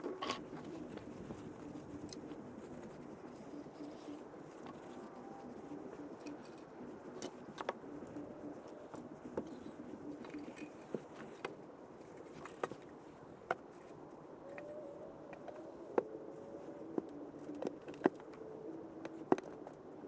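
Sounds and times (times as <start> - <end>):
faint background noise: 0.0 - 20.0.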